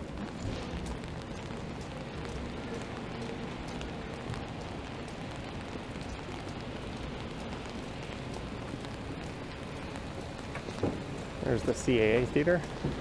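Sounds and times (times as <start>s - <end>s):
rain on wet street: 0.0s - 13.0s.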